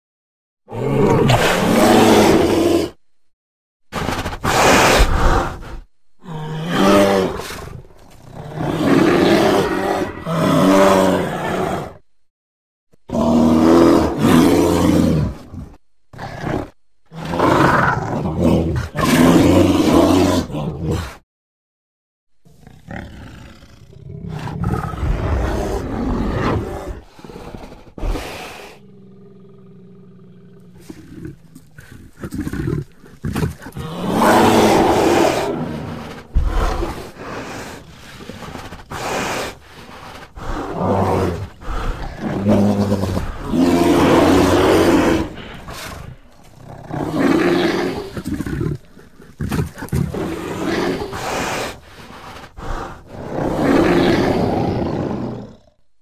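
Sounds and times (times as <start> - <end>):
creature roaring: 0.7 - 3.0, 4.4 - 12.0, 13.1 - 21.2, 22.7 - 55.8.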